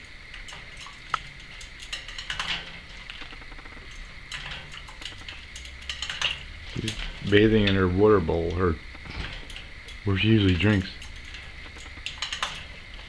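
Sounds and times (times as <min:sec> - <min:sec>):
parrot splashing in water bowl: 0:00.0 - 0:13.0.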